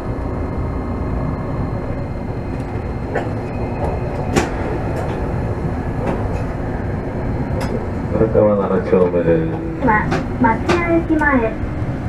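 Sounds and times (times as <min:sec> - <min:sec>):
streetcar rumble: 0:00.0 - 0:12.0.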